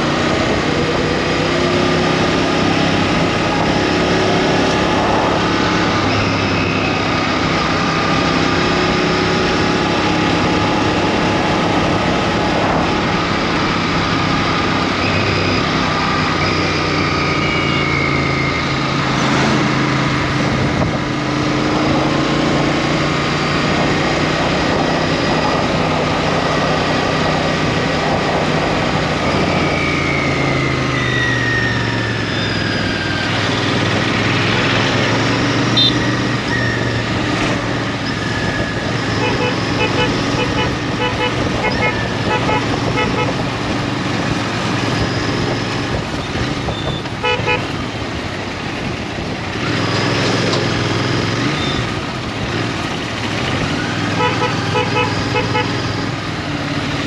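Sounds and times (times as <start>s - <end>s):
road noise: 0.0s - 57.0s
wind noise: 2.0s - 16.4s, 17.8s - 52.6s.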